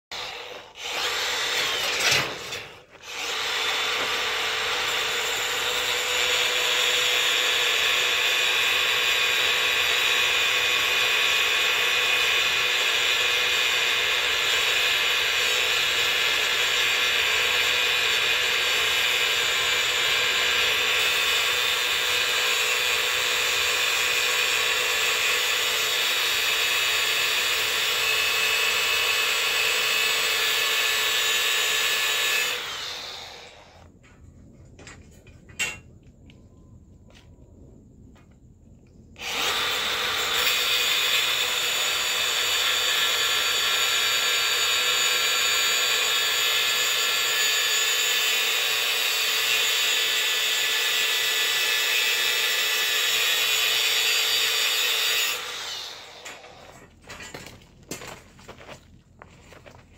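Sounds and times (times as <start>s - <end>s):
angle grinder cutting steel: 0.0s - 33.8s, 39.2s - 56.9s.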